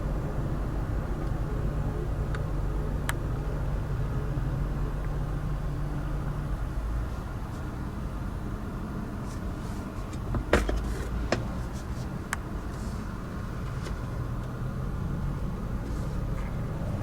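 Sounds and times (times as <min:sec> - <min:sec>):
car low hum: 0:00.0 - 0:17.0.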